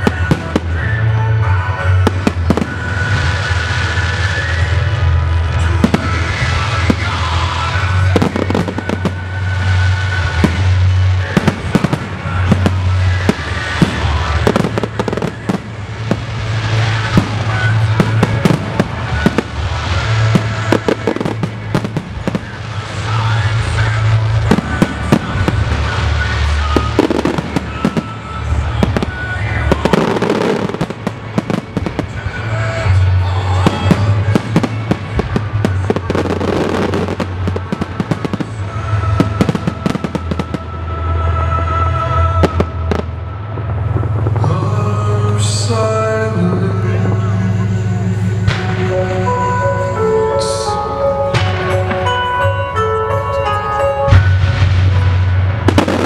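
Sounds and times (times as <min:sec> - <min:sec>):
fireworks bursting and crackling: 0:00.0 - 0:56.0
music over loudspeakers: 0:00.0 - 0:56.0.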